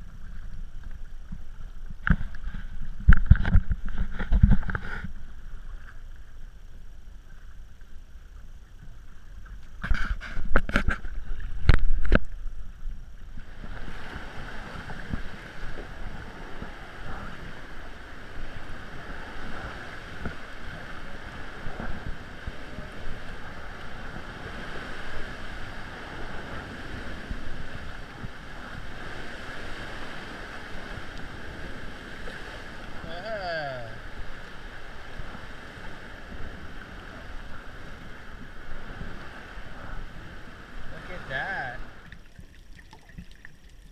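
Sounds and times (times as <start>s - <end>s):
water splashing around kayak: 0.0s - 43.9s
wind: 0.0s - 43.9s.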